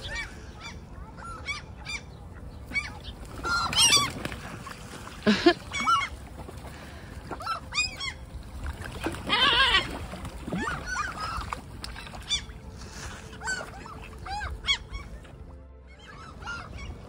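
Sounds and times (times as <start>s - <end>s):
gulls screeching: 0.0s - 17.0s.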